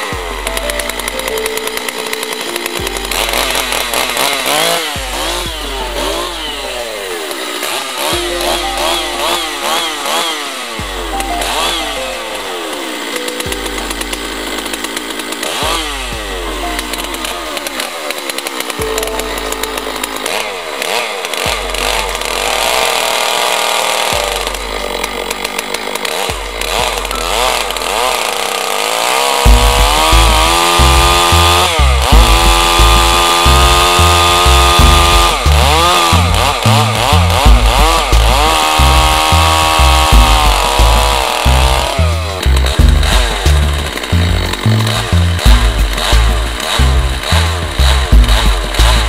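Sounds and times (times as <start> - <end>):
chainsaw cutting wood: 0.0 - 49.0.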